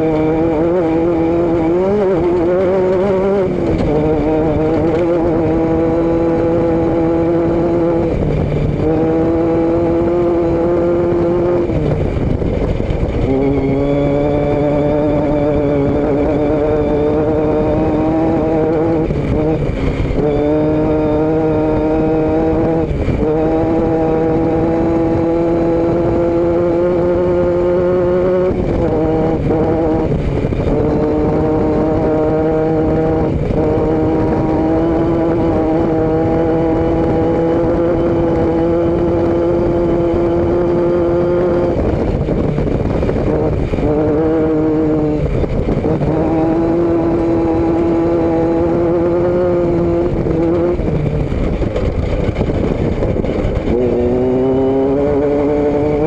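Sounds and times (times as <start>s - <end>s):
road rumble: 0.0s - 56.0s
vehicle engine and exhaust: 0.0s - 56.0s
wind noise: 0.0s - 56.0s.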